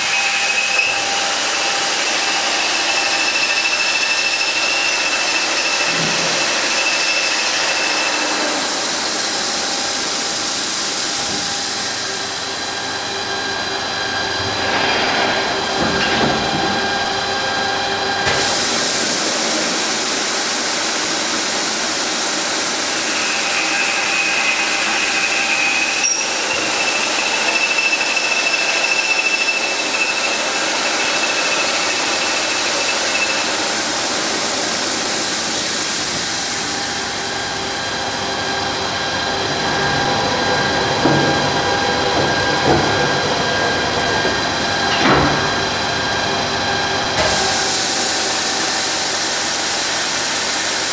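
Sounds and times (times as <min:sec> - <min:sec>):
drilling machine running: 0:00.0 - 0:14.7, 0:15.4 - 0:50.9.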